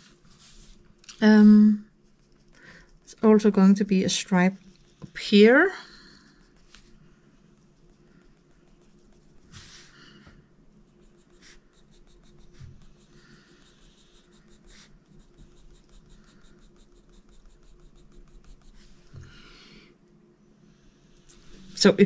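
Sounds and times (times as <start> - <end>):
pencil scratching on paper: 0.0 - 19.1.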